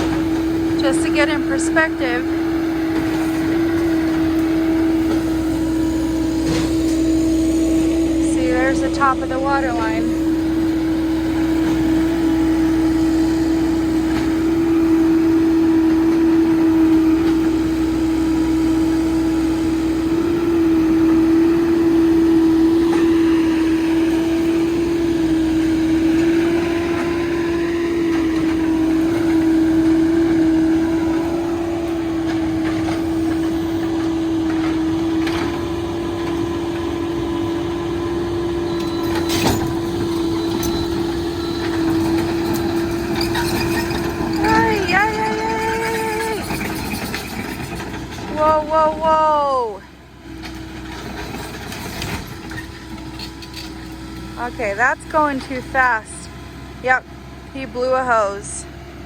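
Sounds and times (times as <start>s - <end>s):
excavator engine droning: 0.0s - 59.0s.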